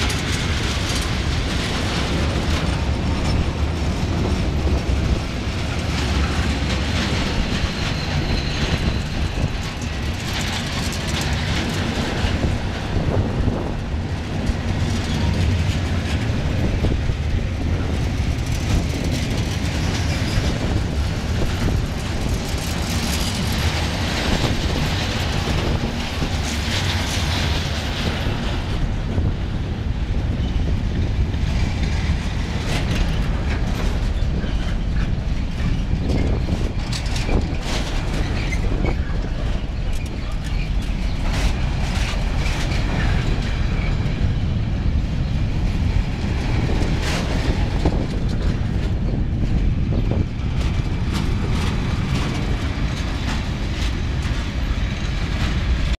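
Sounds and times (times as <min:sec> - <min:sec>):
heavy train rumble: 0:00.0 - 0:56.0
train wheels clattering over rail joints: 0:00.0 - 0:56.0.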